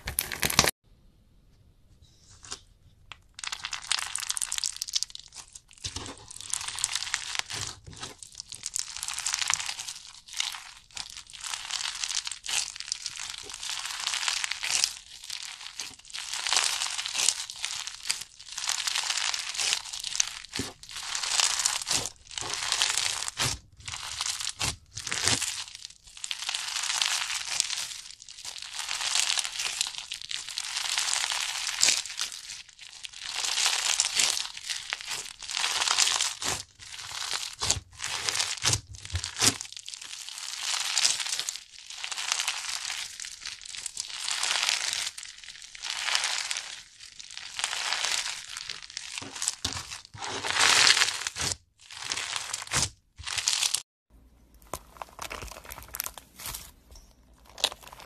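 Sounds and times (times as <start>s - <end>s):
crunchy slime squeezed by hand: 0.0s - 0.7s, 3.3s - 53.8s, 54.6s - 56.7s, 57.4s - 58.0s.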